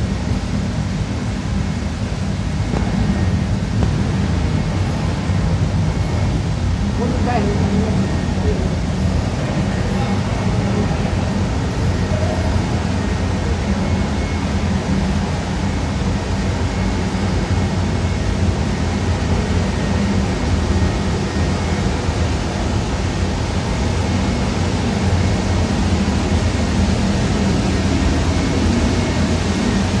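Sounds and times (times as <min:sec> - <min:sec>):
faint high whine: 0:00.0 - 0:30.0
fan and ventilation rush: 0:00.0 - 0:30.0
machine low hum: 0:00.0 - 0:30.0.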